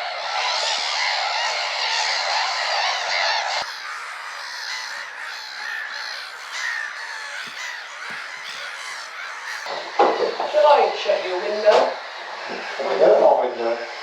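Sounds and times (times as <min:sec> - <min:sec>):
flock of gulls squawking: 0:00.0 - 0:14.0.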